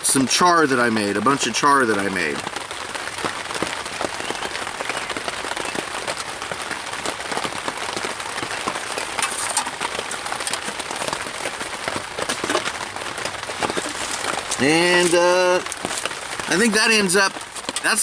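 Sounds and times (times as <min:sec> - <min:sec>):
rain on a tarp tent: 0:00.0 - 0:18.0.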